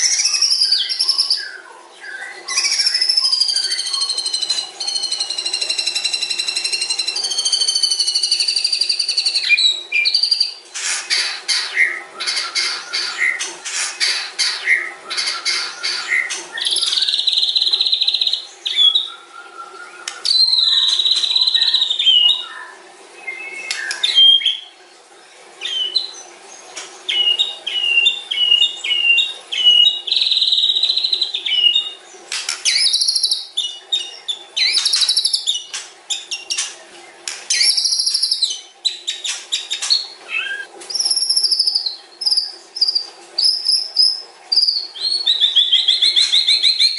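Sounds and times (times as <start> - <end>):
bird singing: 0.0 - 10.6, 11.2 - 24.8, 25.6 - 36.7, 37.5 - 46.9.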